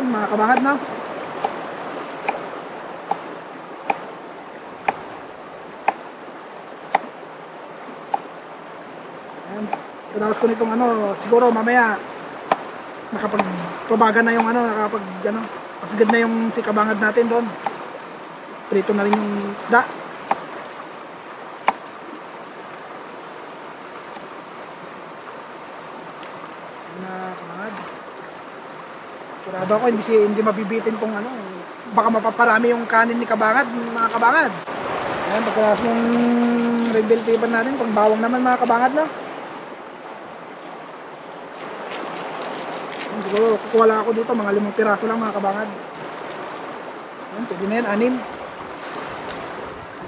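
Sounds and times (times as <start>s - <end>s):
river rushing: 0.0s - 50.0s.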